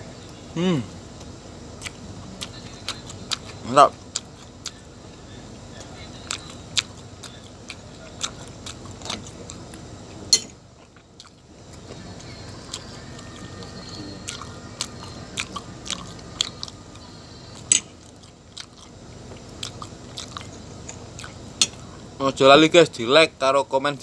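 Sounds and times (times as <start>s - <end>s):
chewing mouth sounds: 1.2s - 4.9s, 5.8s - 10.2s, 10.8s - 22.0s.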